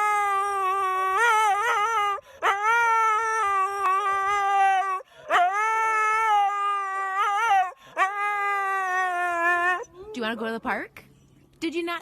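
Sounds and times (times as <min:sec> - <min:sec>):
dog howling: 0:00.0 - 0:10.2.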